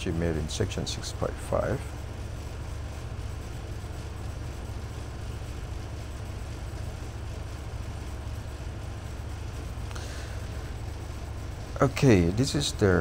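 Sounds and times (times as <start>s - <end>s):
steady low hum with hiss: 0.0s - 13.0s.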